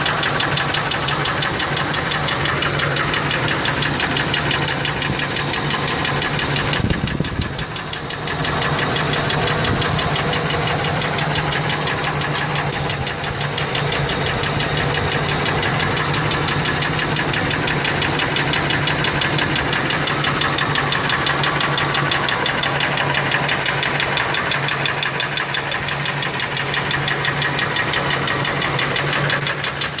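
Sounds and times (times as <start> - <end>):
engine running with rapid knock: 0.0 - 30.0.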